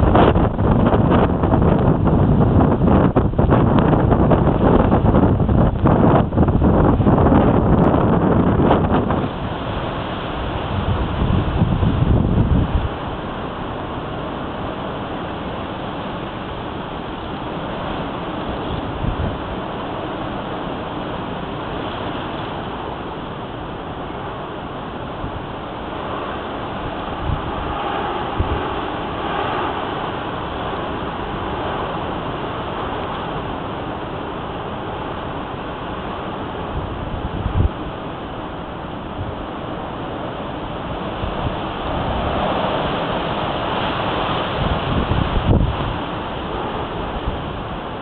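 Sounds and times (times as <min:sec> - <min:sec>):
strong wind through trees: 0:00.0 - 0:48.0
wind buffeting microphone: 0:00.0 - 0:48.0.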